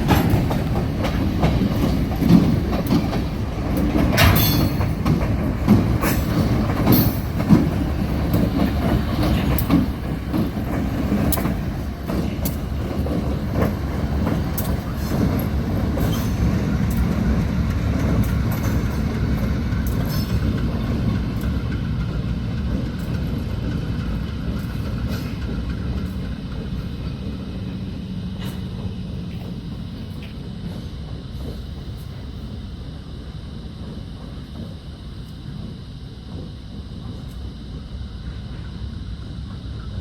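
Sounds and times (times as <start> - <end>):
wheels clicking over rail joints: 0.0 - 32.2
freight train rumbling: 0.0 - 40.0.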